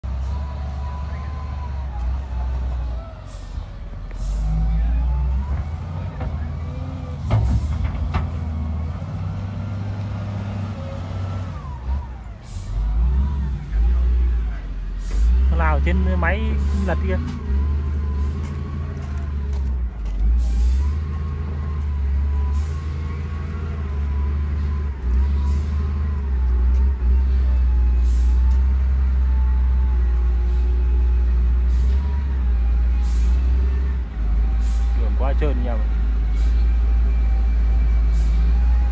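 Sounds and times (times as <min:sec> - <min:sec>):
diesel engine running at low revs: 0:00.0 - 0:38.9.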